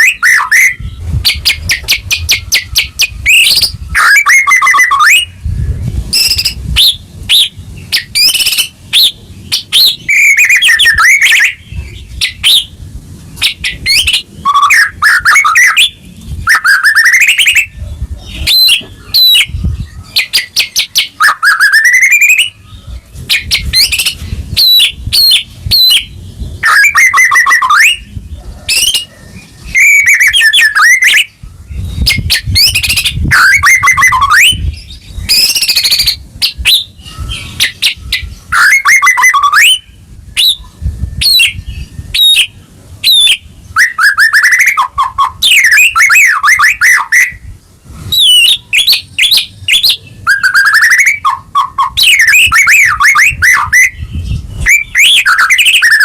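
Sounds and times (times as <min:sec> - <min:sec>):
songbird singing whistled phrases: 0:00.0 - 0:05.4, 0:06.1 - 0:12.8, 0:13.4 - 0:47.5, 0:48.1 - 0:56.0.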